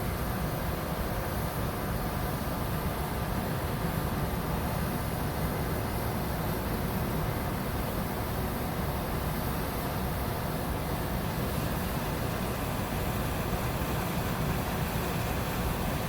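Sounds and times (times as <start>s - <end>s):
noisy hiss: 0.0s - 16.0s.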